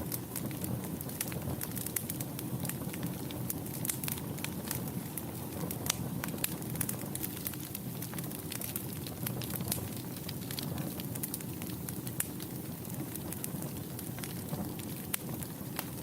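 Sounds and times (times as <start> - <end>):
wood fire crackling in a fireplace: 0.0 - 16.0.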